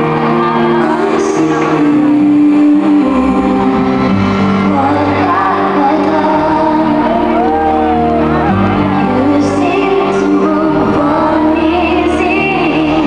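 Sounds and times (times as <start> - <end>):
woman singing into a microphone: 0.0 - 13.0.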